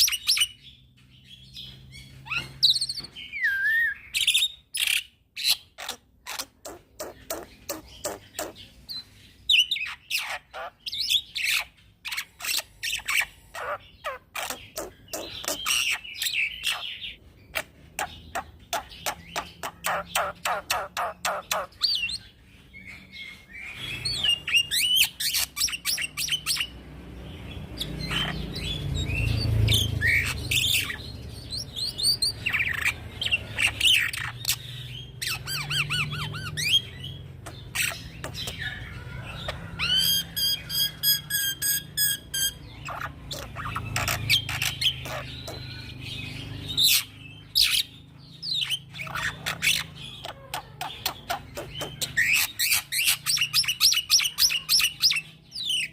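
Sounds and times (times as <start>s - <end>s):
starling singing: 0.0s - 55.9s
bird harsh squawky calls: 1.6s - 26.7s, 27.8s - 55.9s.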